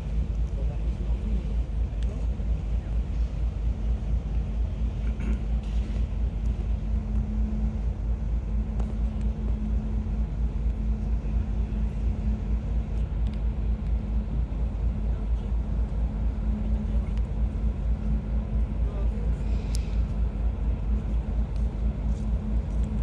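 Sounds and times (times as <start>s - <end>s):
ship engines rumbling: 0.0s - 23.0s.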